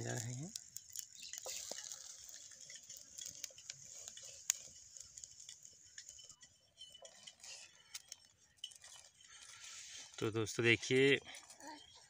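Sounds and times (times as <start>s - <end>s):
ghee sizzling in a frying pan: 0.0s - 10.2s.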